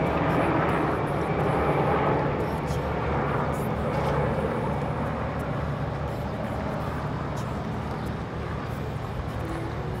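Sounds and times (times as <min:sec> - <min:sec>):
helicopter rotors pulsing: 0:00.0 - 0:10.0.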